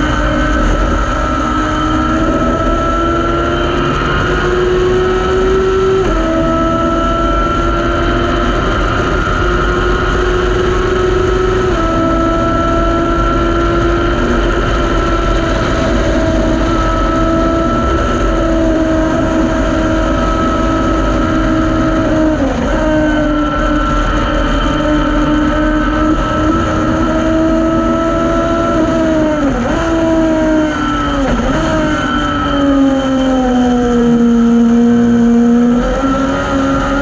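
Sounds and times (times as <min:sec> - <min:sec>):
race car engine at high revs: 0:00.0 - 0:37.0
road rumble: 0:00.0 - 0:37.0
wind: 0:00.0 - 0:37.0.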